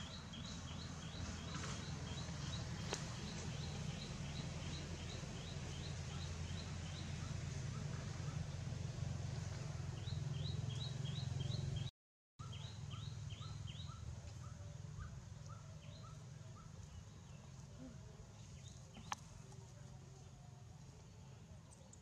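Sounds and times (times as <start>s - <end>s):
low outdoor hum: 0.0s - 22.0s.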